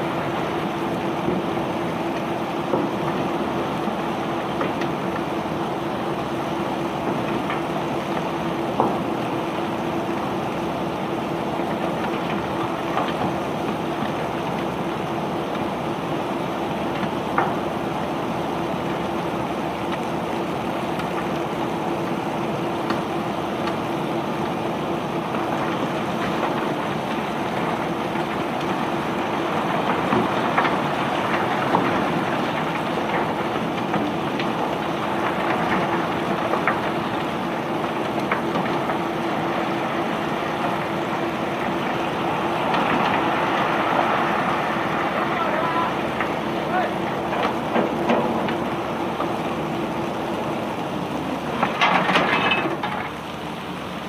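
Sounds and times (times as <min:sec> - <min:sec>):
constant hum: 0:00.0 - 0:54.0
conveyor belt rattling rumble: 0:00.0 - 0:54.0.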